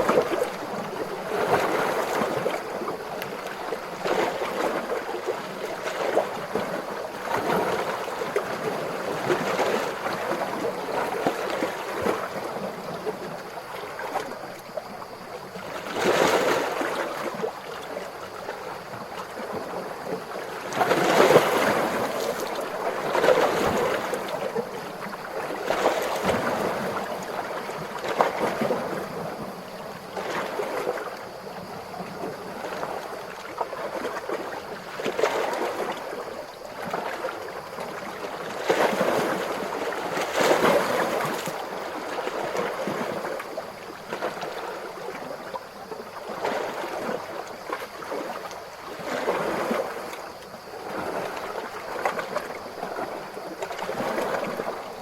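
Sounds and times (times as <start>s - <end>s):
small ocean waves lapping: 0.0s - 55.0s.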